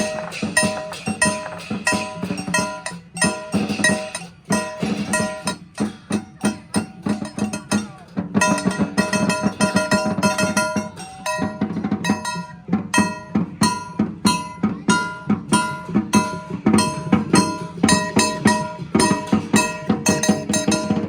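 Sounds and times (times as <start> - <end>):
cymbals and gongs ringing: 0.0 - 21.0
drum strokes: 0.0 - 21.0.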